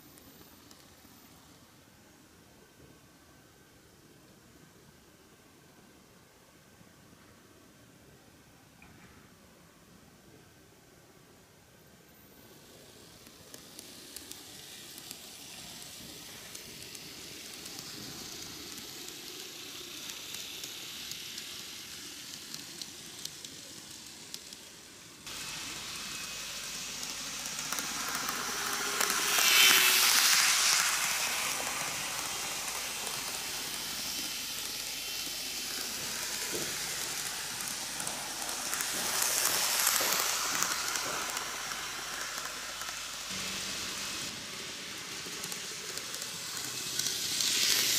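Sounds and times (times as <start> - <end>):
model train wheels rolling on rails: 0.0 - 5.3, 10.9 - 47.9.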